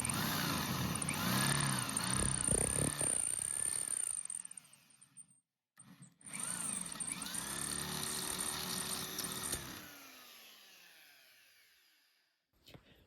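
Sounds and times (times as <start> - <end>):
electric drill running: 0.0 - 5.2, 5.8 - 12.1.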